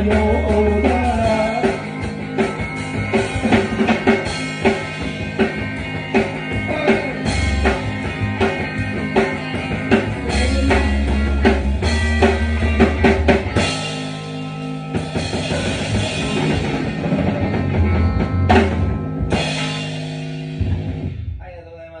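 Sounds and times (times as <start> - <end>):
rock band playing: 0.0 - 21.9.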